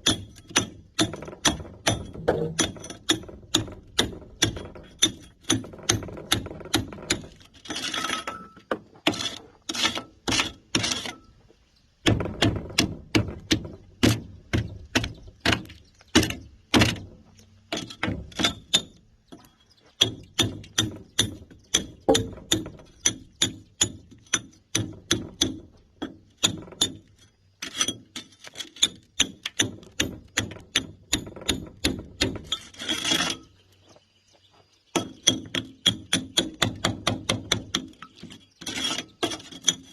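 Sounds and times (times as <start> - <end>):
hammer and chisel chipping concrete: 0.0 - 11.2, 12.0 - 17.1, 17.7 - 33.5, 34.9 - 39.9.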